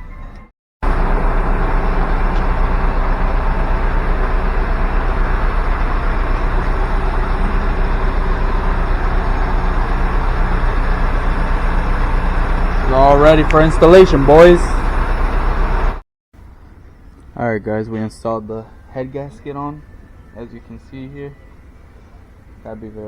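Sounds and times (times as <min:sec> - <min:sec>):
motor running with low rumble: 0:00.8 - 0:23.0.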